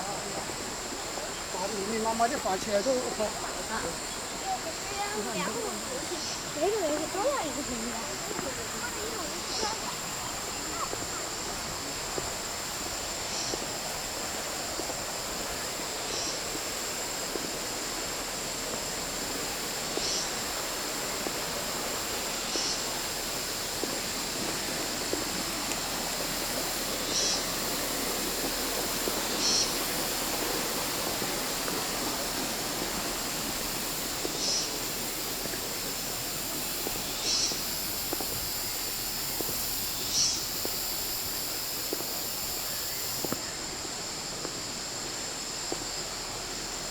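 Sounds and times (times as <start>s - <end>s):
stream water running over stones: 0.0s - 46.9s.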